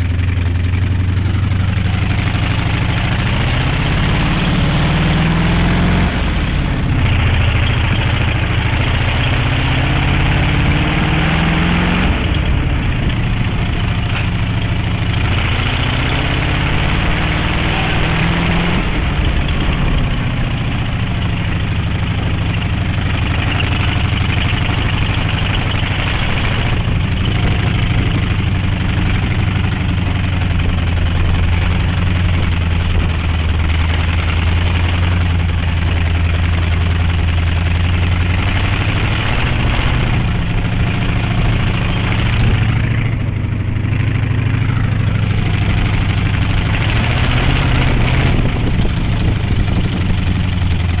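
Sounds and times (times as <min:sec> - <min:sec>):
truck engine running: 0:00.0 - 0:51.0.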